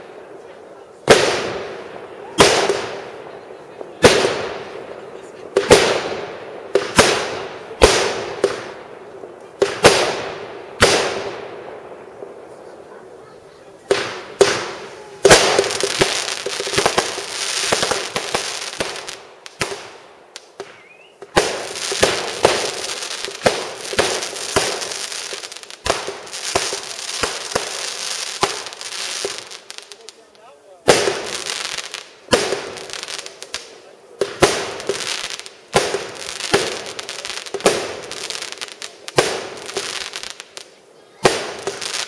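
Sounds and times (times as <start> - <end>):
firework bangs: 0.0 - 42.0
firework crackling: 0.0 - 42.0.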